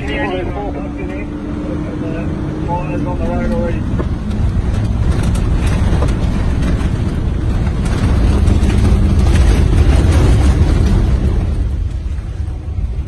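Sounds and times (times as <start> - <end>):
fire truck engine rumble: 0.0 - 13.0.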